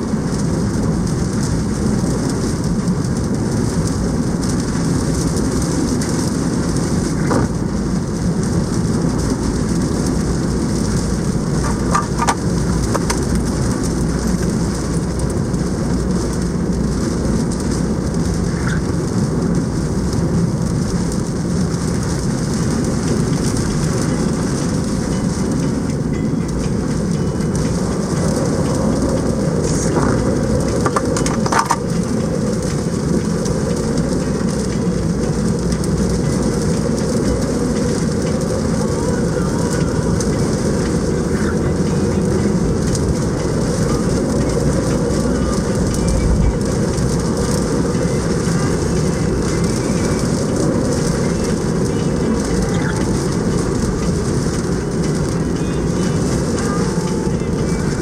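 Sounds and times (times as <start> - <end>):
typhoon wind and heavy rain: 0.0 - 58.0.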